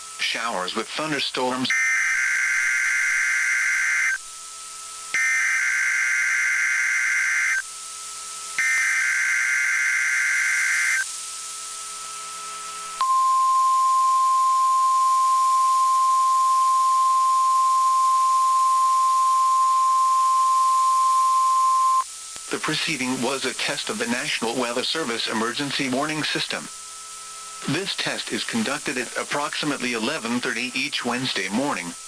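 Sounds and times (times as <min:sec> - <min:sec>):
screechy digital data bursts: 0:01.0 - 0:04.2, 0:05.1 - 0:07.7, 0:08.6 - 0:11.1, 0:13.3 - 0:32.0
steady warning alarm tone: 0:01.0 - 0:04.2, 0:05.0 - 0:11.1, 0:13.0 - 0:32.0.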